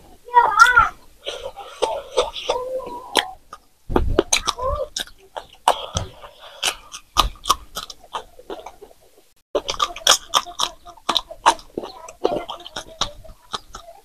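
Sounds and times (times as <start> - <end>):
crunchy chewing: 1.3 - 14.0.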